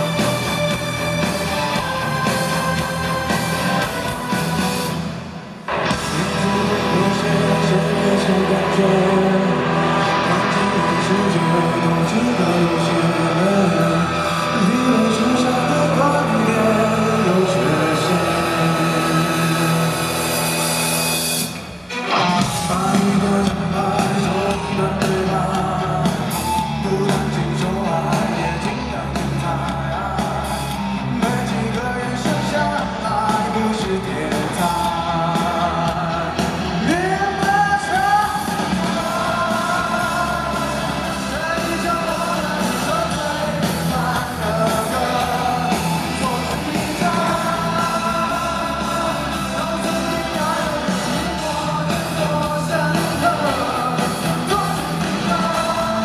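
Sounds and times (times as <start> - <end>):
live rock band playing: 0.0 - 56.0
man singing: 5.7 - 20.9, 21.9 - 56.0.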